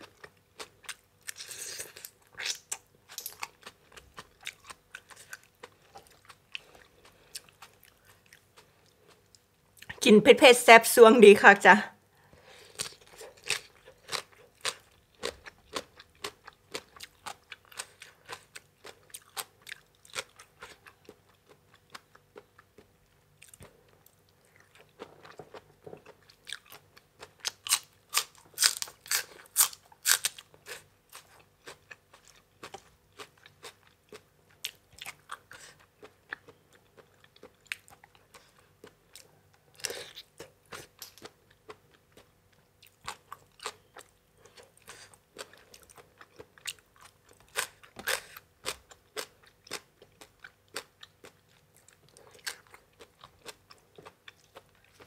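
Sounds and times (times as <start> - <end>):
chewing and crunching: 0.0 - 10.0, 12.3 - 55.0.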